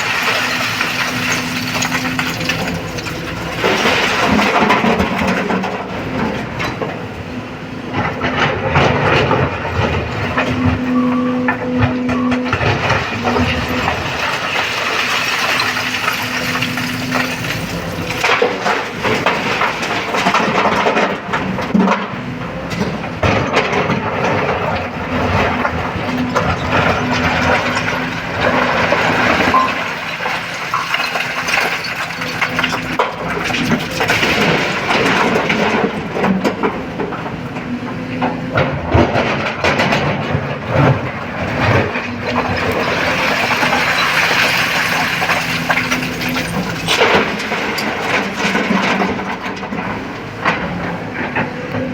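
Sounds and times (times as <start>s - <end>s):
diesel excavator engine running: 0.0s - 51.9s.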